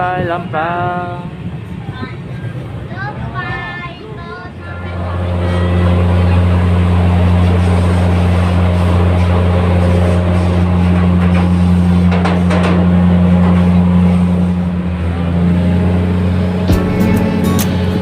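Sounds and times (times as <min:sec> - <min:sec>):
diesel train engine rumble: 0:00.0 - 0:18.0.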